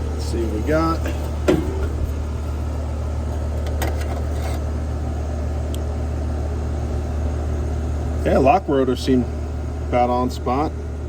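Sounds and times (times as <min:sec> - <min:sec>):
air conditioner unit humming: 0:00.0 - 0:11.0.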